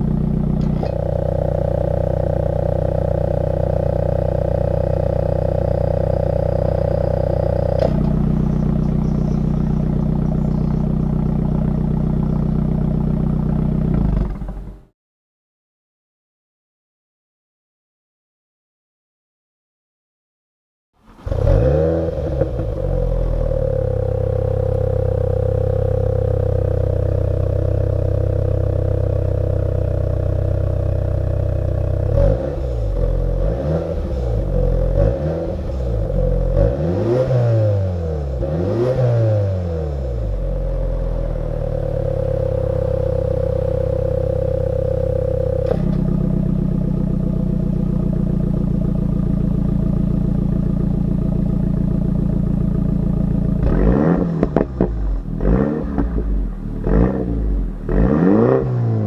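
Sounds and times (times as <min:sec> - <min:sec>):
car engine idling: 0:00.0 - 0:14.9, 0:21.0 - 0:59.0
car engine starting: 0:00.0 - 0:14.9, 0:21.0 - 0:59.0
engine throttle blips: 0:00.0 - 0:14.9, 0:21.0 - 0:59.0.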